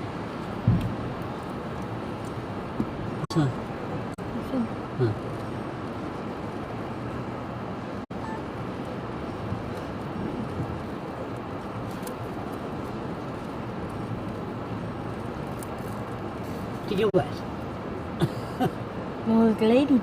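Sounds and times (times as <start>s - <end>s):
wind blowing across microphone: 0.0s - 20.0s.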